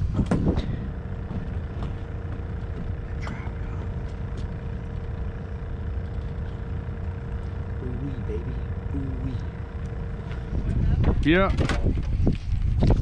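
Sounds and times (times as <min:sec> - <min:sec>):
faint hum: 0:00.0 - 0:13.0
low rumble: 0:00.0 - 0:13.0.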